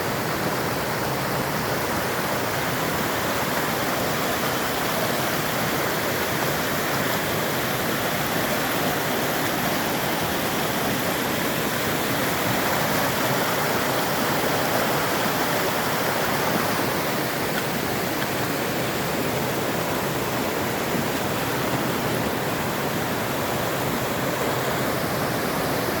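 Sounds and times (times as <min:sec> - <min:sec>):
stream rushing: 0:00.0 - 0:26.0.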